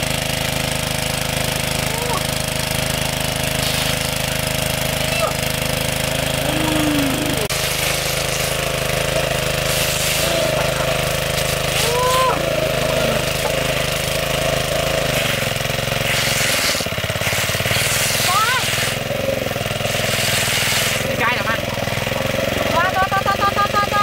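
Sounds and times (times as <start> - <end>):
engine-driven water pump running: 0.0 - 24.0
water jetting out: 0.9 - 23.0.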